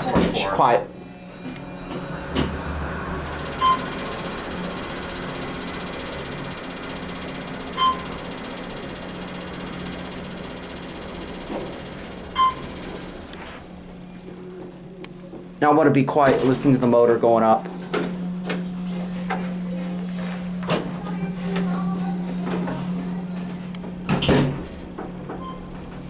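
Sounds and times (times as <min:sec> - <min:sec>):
elevator car hum and whir: 0:00.0 - 0:26.0.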